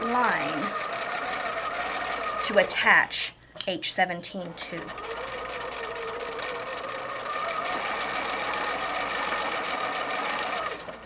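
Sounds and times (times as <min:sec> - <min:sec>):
sewing machine stitching: 0:00.0 - 0:03.0, 0:04.3 - 0:11.0.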